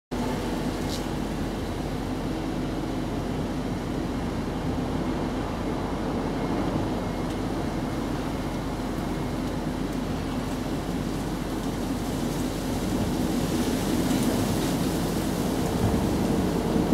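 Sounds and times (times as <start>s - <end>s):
constant low hum: 0.1s - 16.9s
low background rumble: 0.1s - 16.9s.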